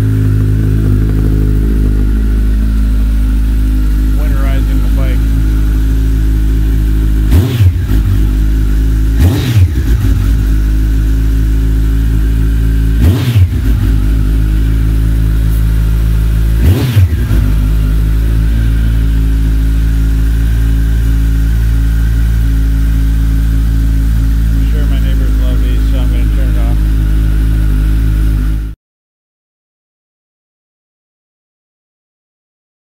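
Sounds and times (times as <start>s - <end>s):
motorcycle engine idling: 0.0s - 28.8s.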